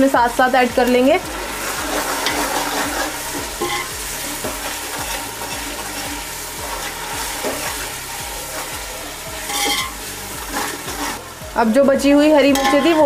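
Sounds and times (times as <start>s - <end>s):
onions sizzling in hot oil: 0.0s - 13.0s
metal spatula scraping pot: 0.9s - 11.4s, 12.4s - 13.0s.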